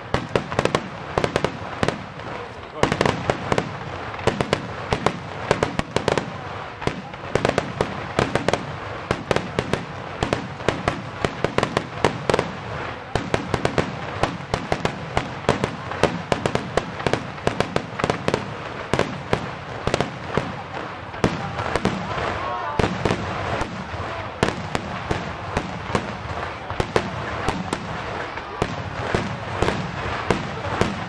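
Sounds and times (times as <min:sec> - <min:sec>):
fireworks launching and bursting: 0:00.0 - 0:31.0.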